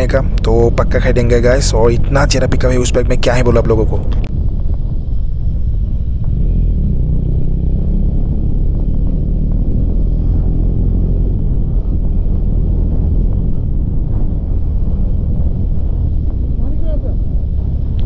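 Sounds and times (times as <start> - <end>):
motorcycle engine drone: 0.0 - 18.0
wind and road rumble: 0.0 - 18.0.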